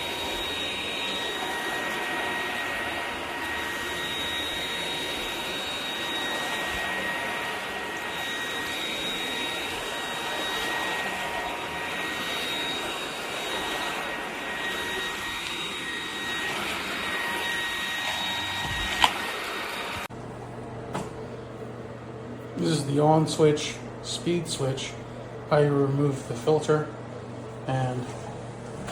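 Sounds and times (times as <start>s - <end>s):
stick vacuum running: 0.0s - 28.9s.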